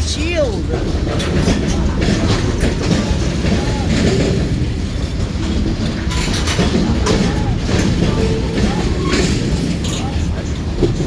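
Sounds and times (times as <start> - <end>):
freight train rumbling past: 0.0 - 11.0
wheels clacking over rail joints: 0.0 - 11.0.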